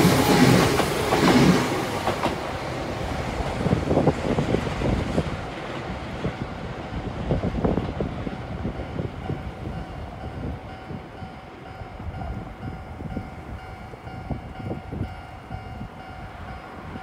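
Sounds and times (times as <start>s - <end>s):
electric train rumble: 0.0s - 17.0s
gusty wind noise: 0.0s - 17.0s.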